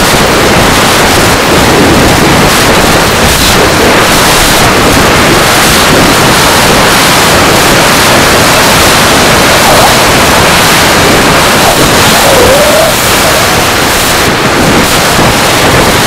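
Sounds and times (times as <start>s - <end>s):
airflow rushing: 2.0s - 16.0s.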